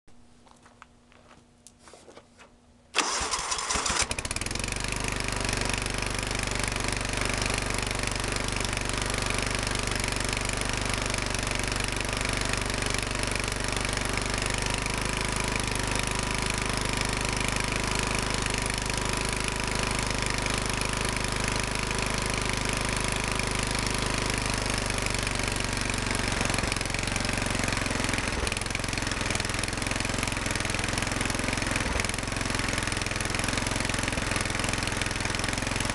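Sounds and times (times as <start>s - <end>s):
lawn tractor engine running: 3.0s - 35.9s.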